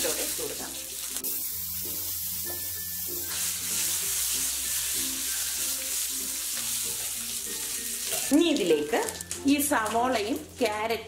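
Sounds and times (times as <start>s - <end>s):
leaves sizzling in hot oil: 0.0s - 10.9s
soft background music: 0.0s - 11.0s.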